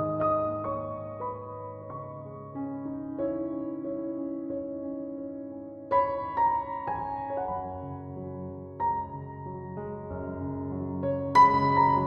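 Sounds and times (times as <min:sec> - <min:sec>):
slow calm piano music: 0:00.0 - 0:12.0.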